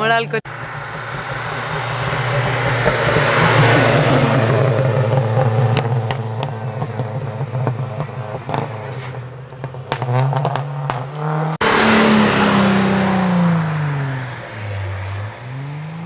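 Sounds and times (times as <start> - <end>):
rally car engine accelerating: 0.5 - 16.0
rally car passing by: 0.5 - 16.0.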